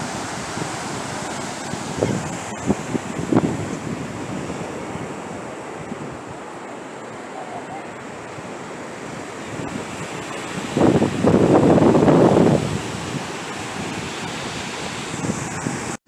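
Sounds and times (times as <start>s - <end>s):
wind noise on microphone: 0.0s - 6.7s, 8.0s - 16.0s
ocean surf washing on beach: 0.0s - 16.0s.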